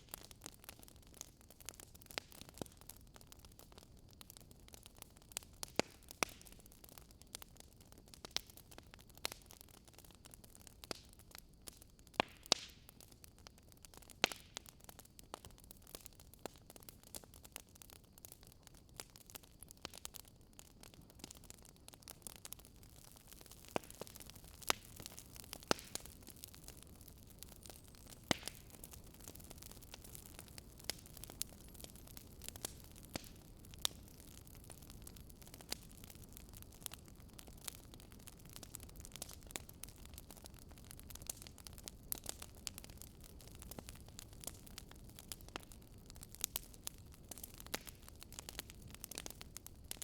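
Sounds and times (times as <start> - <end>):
faint steady hiss: 0.0 - 50.0
wood fire crackling: 0.0 - 50.0.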